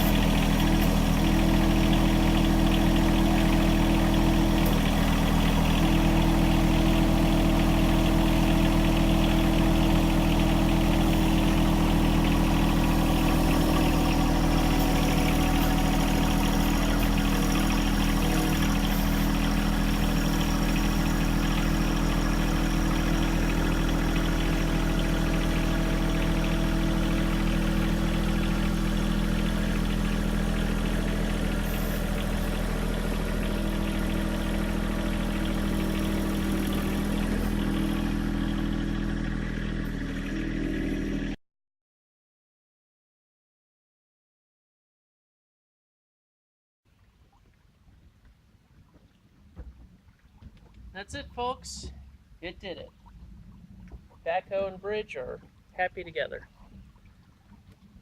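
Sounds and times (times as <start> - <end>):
tractor diesel engine running: 0.0 - 41.4, 49.6 - 58.0.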